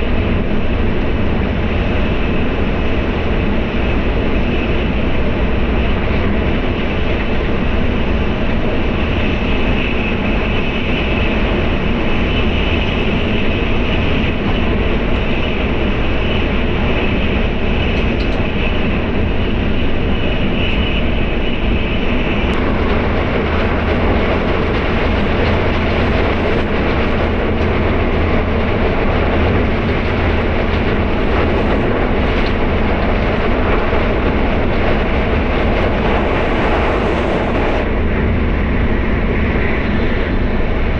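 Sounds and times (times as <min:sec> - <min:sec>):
train cabin rumble and hiss: 0:00.0 - 0:40.9.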